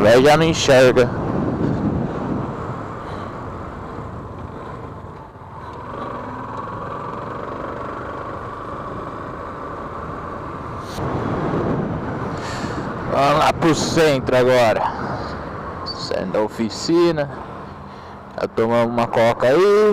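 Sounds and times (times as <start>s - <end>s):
engine and traffic noise: 0.0s - 19.9s.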